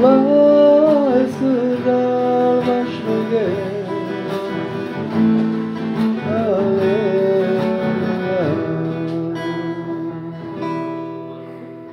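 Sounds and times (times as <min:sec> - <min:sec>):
man singing a hymn: 0:00.0 - 0:04.6, 0:06.2 - 0:11.2
acoustic guitar strumming: 0:00.0 - 0:11.9.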